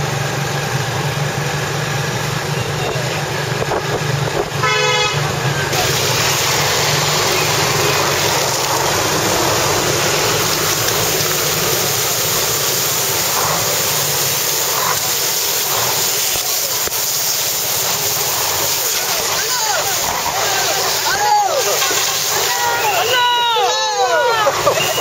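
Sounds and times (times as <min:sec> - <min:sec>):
water jets spraying: 0:00.0 - 0:25.0.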